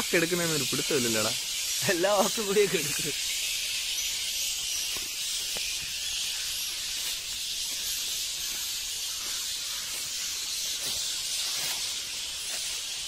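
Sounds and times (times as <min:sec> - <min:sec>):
bat colony calls: 0:00.0 - 0:13.0.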